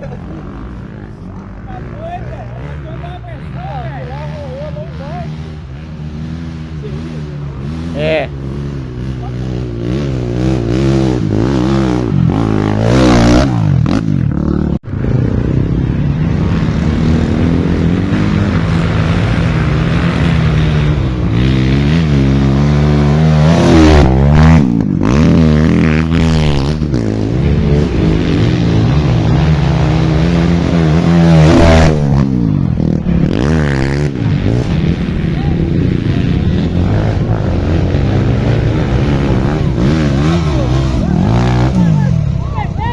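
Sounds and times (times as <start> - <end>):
off-road motorcycle engines revving: 0.0 - 42.9.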